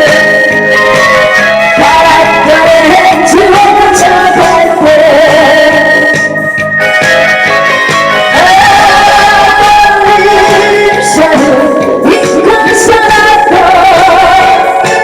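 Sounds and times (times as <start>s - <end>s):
woman singing: 0.0s - 6.4s, 8.2s - 15.0s
loud backing track: 0.0s - 15.0s.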